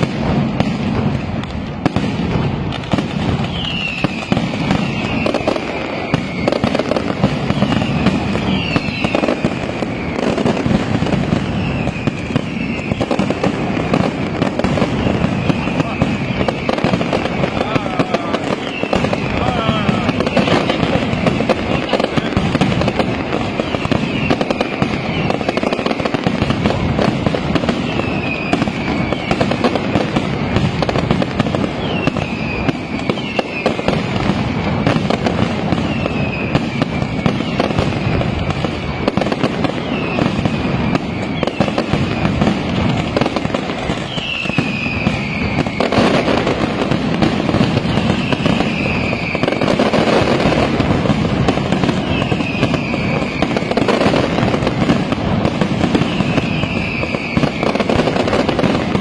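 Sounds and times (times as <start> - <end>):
firecrackers banging rapidly: 0.0 - 59.0
high whistles falling in pitch: 3.3 - 31.0, 31.7 - 46.9, 47.6 - 50.7, 51.8 - 54.6, 55.8 - 58.8.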